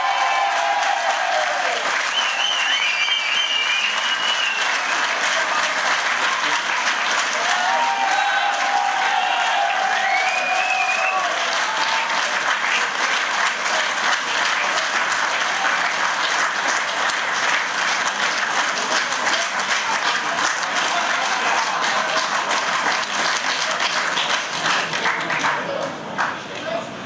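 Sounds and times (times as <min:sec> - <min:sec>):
audience applauding: 0:00.0 - 0:26.8.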